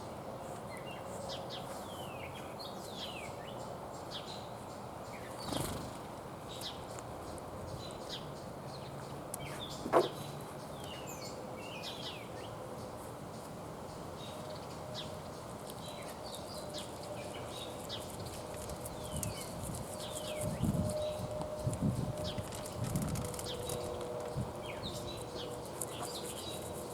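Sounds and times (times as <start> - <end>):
outdoor background noise: 0.0 - 26.9
wild birds chirping: 0.7 - 26.9.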